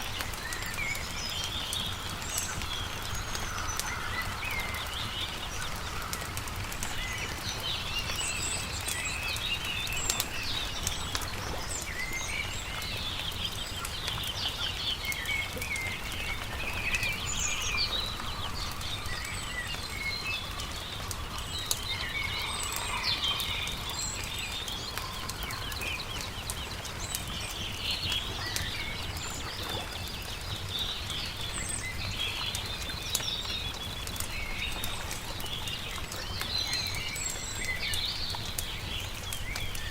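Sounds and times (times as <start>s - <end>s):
campfire crackling and popping: 0.0s - 39.9s
small birds chirping and trilling: 0.0s - 39.9s.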